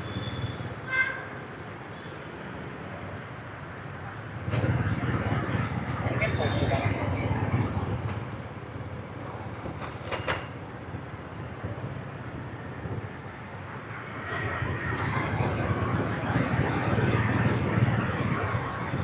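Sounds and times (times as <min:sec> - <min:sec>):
road and wind noise: 0:00.0 - 0:19.0
street traffic: 0:00.0 - 0:19.0.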